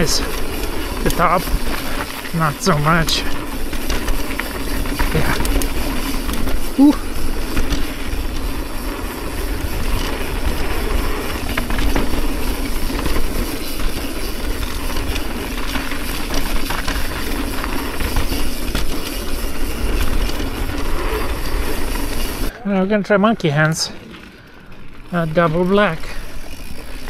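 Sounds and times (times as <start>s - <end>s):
bike rattling: 0.0s - 27.0s
bike tyres rumbling on dirt: 0.0s - 27.0s.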